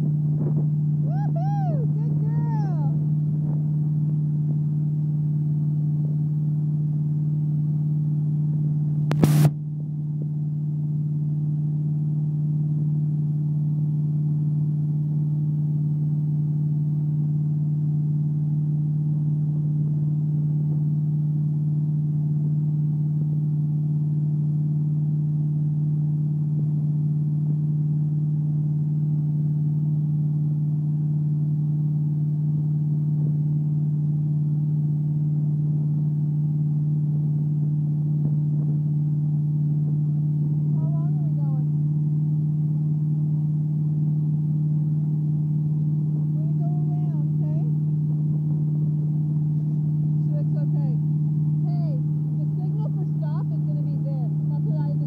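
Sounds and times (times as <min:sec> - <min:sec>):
motorboat engine droning: 0:00.0 - 0:55.0.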